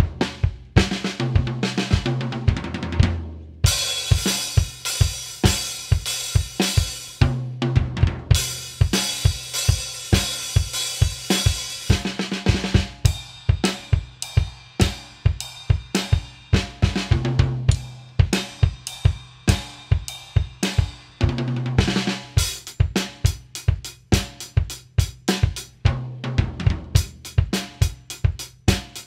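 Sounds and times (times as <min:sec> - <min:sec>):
drum kit groove: 0:00.0 - 0:29.0.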